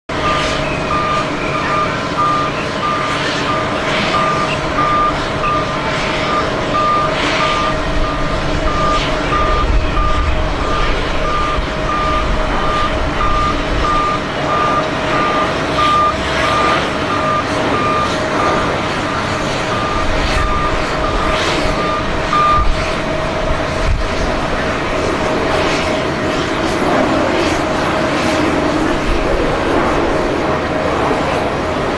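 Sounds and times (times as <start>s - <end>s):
reversing alarm beeping: 0.1s - 26.6s
steady hum and low rumble: 0.1s - 31.9s.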